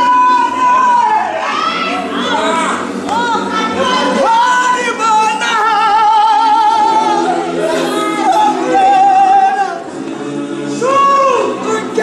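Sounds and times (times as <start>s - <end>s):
gospel choir singing in harmony: 0.0s - 12.0s.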